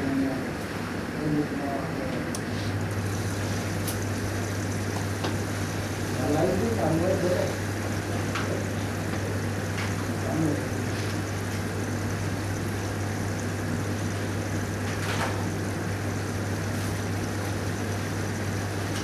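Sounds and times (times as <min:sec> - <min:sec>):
low steady hum: 0:00.0 - 0:19.0
room noise hiss: 0:00.0 - 0:19.0.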